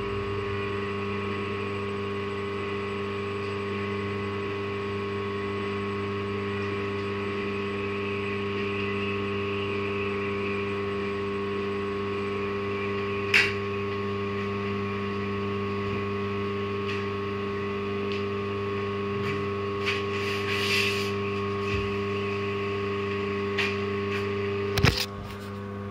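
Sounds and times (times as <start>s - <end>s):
electrical machine hum: 0.0s - 25.9s.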